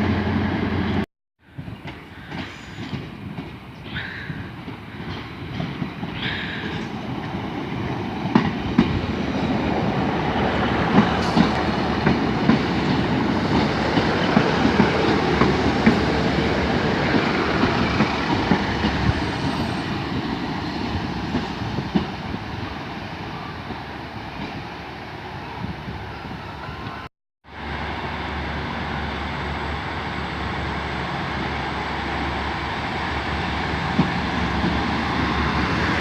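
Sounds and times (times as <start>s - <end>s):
train running on track: 0.0s - 36.0s.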